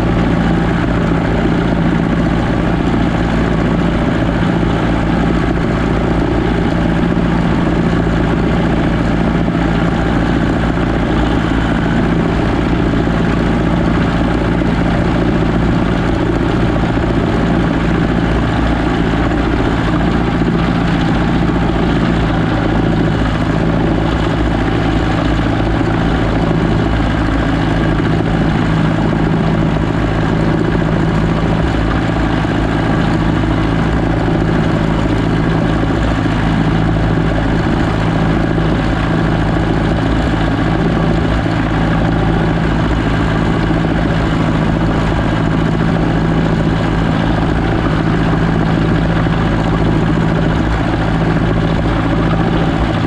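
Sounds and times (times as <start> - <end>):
tractor diesel engine droning: 0.0 - 53.0.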